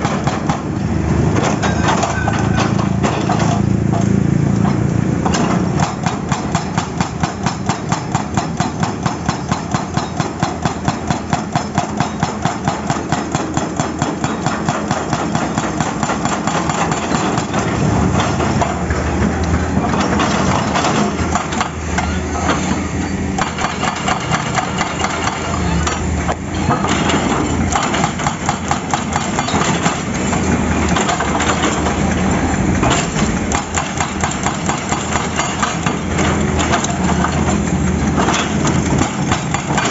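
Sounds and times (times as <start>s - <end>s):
diesel engine running: 0.0s - 10.0s, 13.0s - 39.9s
hydraulic breaker hammering asphalt: 0.0s - 39.9s.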